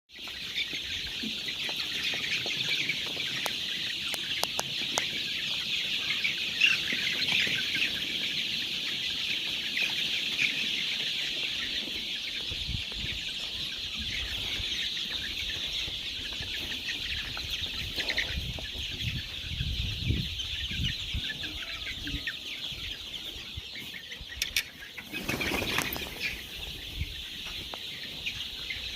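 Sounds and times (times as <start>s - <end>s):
young cockerels chirping and clucking: 0.1s - 28.9s.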